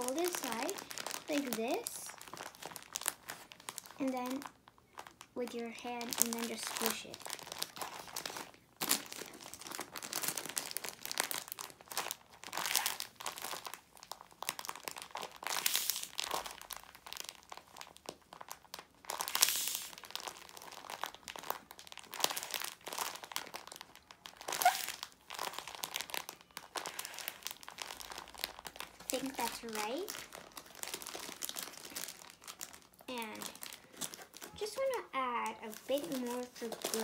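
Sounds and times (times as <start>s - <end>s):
plastic bag crinkling: 0.0s - 37.0s.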